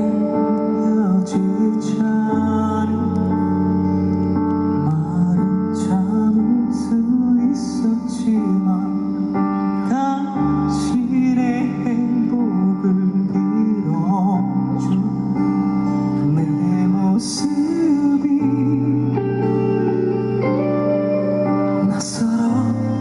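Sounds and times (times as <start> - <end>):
man singing: 0.0 - 3.8, 4.7 - 20.7, 21.7 - 23.0
guitar: 0.0 - 23.0
live band playing ballad: 0.0 - 23.0.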